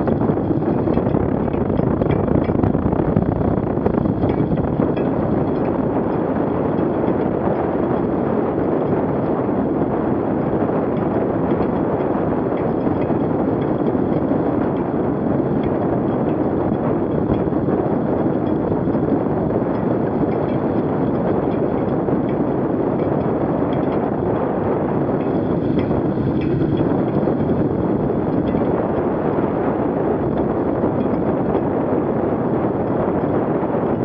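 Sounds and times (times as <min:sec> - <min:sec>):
wind on microphone: 0:00.0 - 0:34.0.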